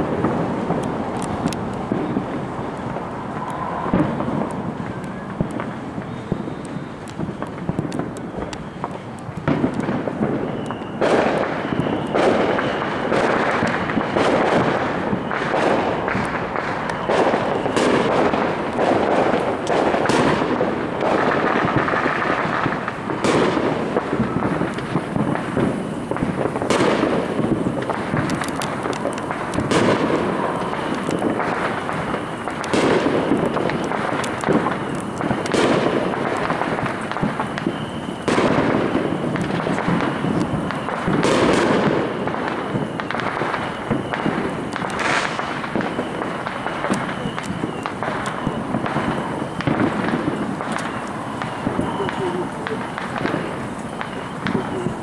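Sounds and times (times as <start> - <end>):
firework bangs: 0.0 - 55.0
firework crackling: 0.0 - 55.0.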